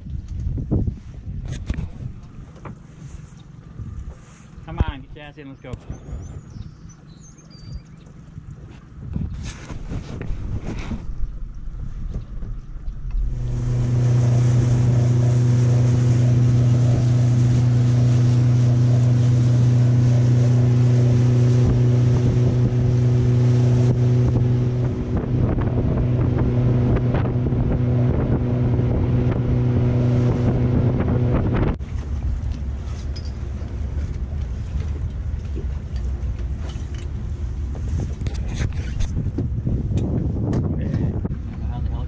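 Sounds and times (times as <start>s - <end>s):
motorboat engine humming: 0.0s - 42.0s
wind on microphone: 0.0s - 42.0s.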